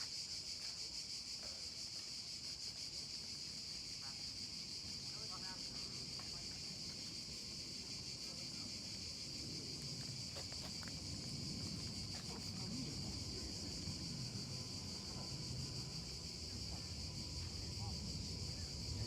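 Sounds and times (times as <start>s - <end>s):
insect chorus drone: 0.0s - 19.0s
low rumble of outdoor noise: 0.1s - 19.0s.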